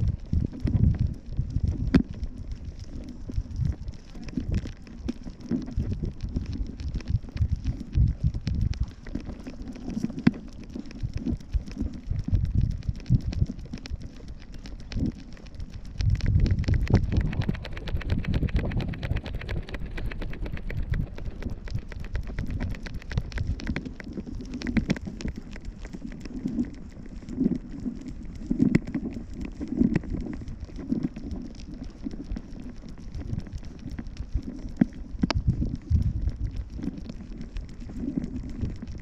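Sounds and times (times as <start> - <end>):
small clicks and taps: 0.0 - 39.0
wind rumbling on microphone: 0.0 - 39.0.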